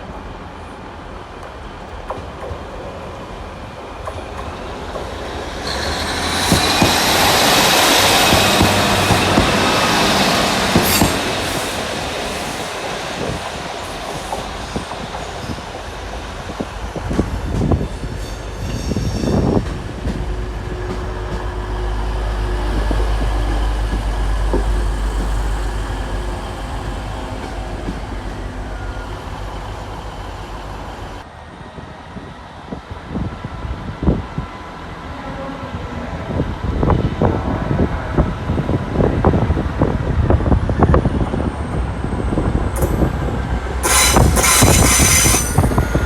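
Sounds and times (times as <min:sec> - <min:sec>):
train moving on rails: 0:00.0 - 0:46.0.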